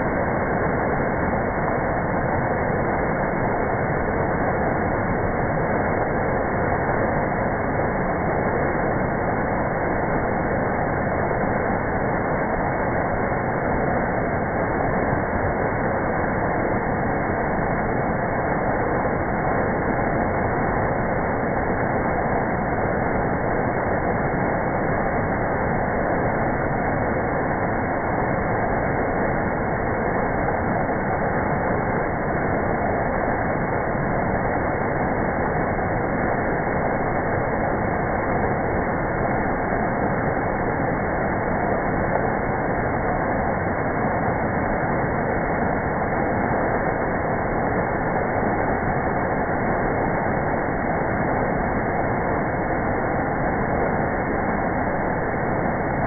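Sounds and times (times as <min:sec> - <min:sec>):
waterfall over rocks: 0:00.0 - 0:56.0.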